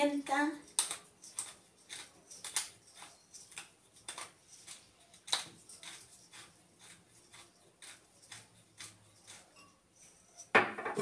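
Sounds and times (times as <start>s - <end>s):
pepper grinder crunching: 0.3s - 10.5s.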